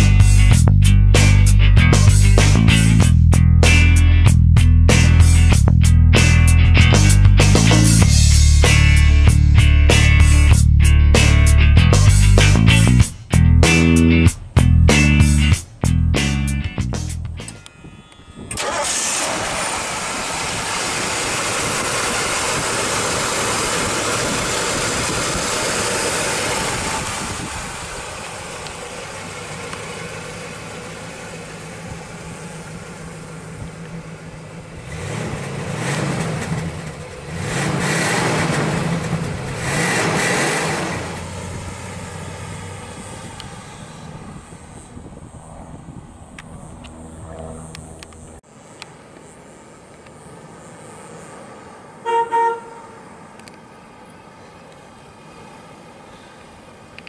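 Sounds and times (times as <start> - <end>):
car engine idling and revving: 0.0 - 17.8, 18.5 - 57.0.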